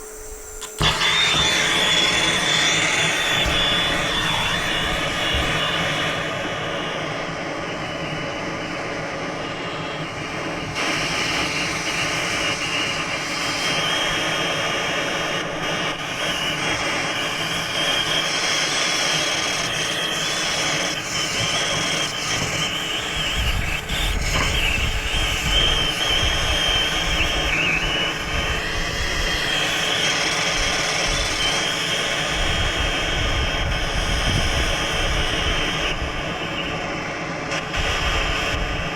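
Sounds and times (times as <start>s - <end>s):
faint high whistle: 0.0s - 38.9s
torch flame roaring hiss: 0.0s - 38.9s.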